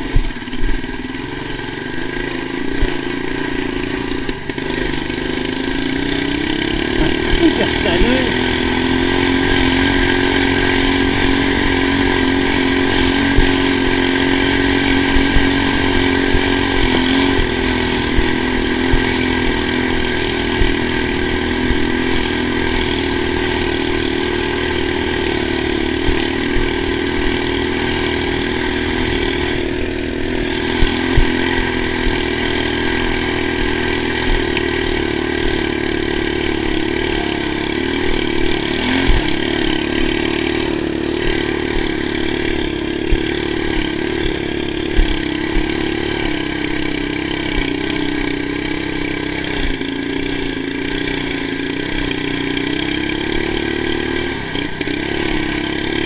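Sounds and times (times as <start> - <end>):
snowbike engine running: 0.0 - 56.0.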